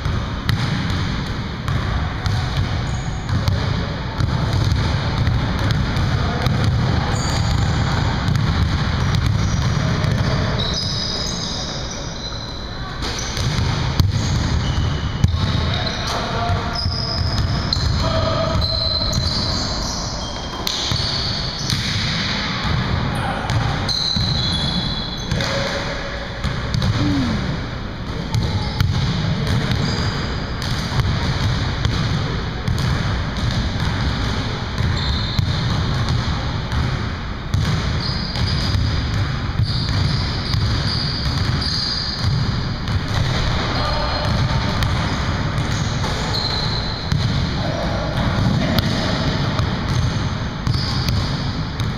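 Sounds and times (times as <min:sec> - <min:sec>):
sneakers squeaking: 0:01.7 - 0:05.3, 0:06.5 - 0:25.9, 0:26.7 - 0:27.7, 0:28.3 - 0:31.0, 0:34.8 - 0:36.1, 0:37.5 - 0:51.9.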